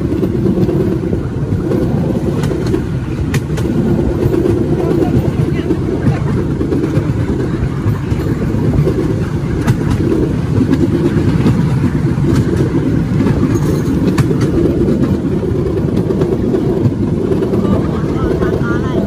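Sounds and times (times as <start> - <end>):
train engine and wheels rumbling: 0.0 - 19.0.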